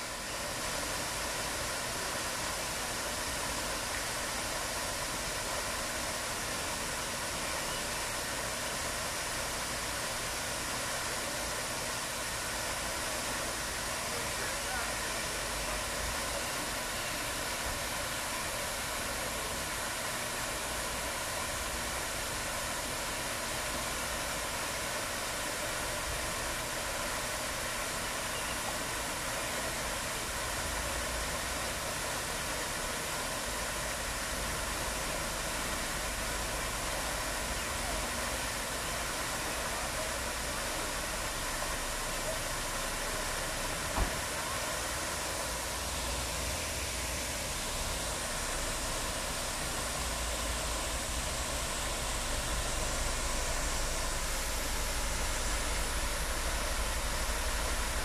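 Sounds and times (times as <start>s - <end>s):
fountain jets splashing: 0.0s - 58.0s.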